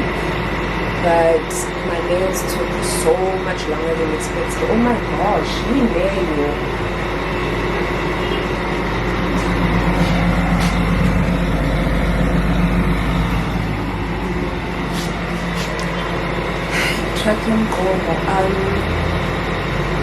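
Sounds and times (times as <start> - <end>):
heavy vehicle engine rumble: 0.0 - 20.0.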